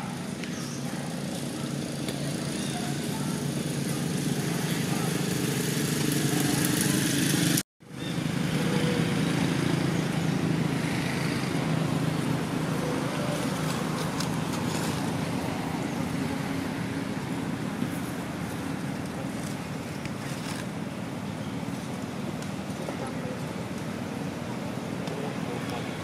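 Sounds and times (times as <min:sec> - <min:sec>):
engine droning with hiss: 0:00.0 - 0:26.0.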